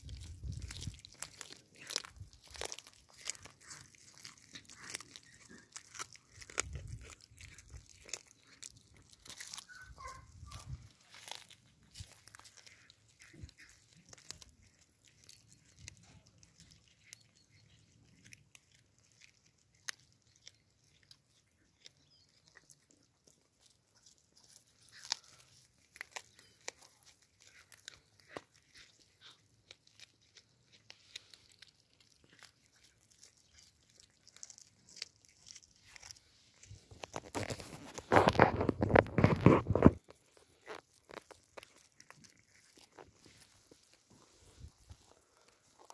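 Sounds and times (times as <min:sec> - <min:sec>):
cats crunching fish: 0:00.0 - 0:45.9.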